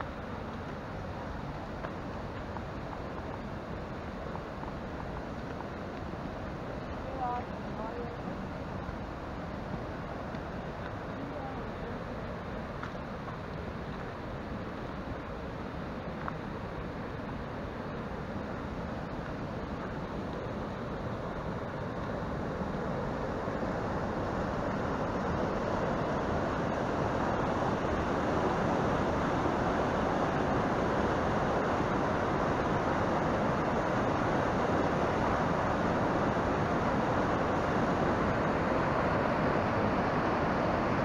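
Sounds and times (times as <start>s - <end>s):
stream rushing over boulders: 0.0s - 41.0s.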